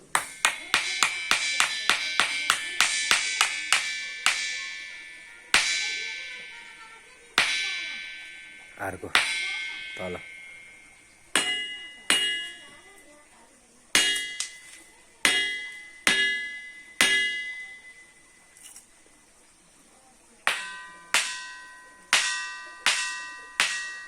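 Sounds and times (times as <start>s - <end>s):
ringing stone being struck: 0.0s - 18.7s, 20.4s - 24.0s.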